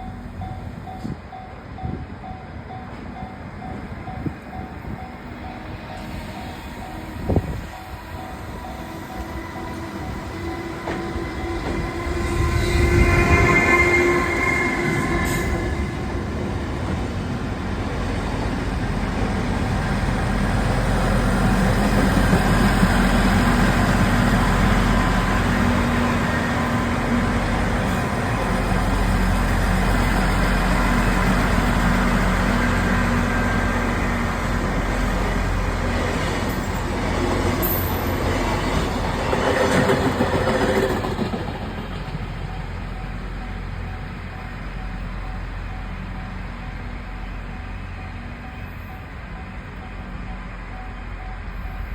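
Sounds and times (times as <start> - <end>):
diesel train engine rumble: 0.0 - 51.9.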